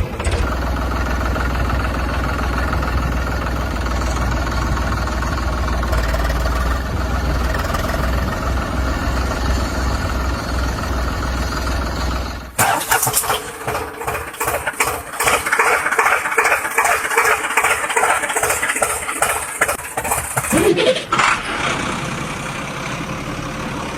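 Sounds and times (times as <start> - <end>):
rapidly pulsing engine: 0.0 - 23.9
vehicle engine humming: 0.0 - 23.9.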